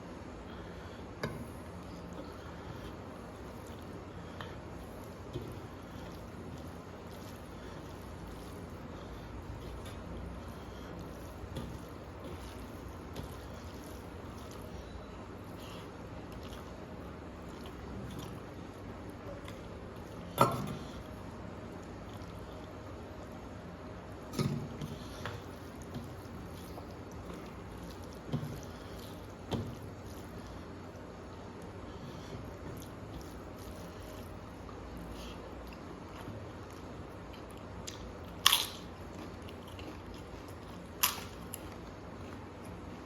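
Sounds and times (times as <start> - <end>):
steady low hum: 0.0 - 43.0
wet eating smacks and squishes: 1.2 - 22.7, 24.2 - 42.8
chewing food: 1.5 - 23.3, 24.7 - 43.0.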